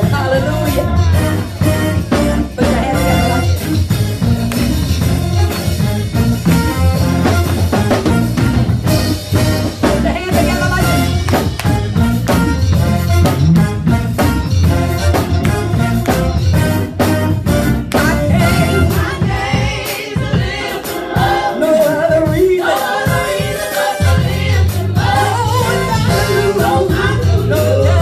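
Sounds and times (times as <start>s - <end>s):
upbeat gospel music with singing: 0.0s - 28.0s.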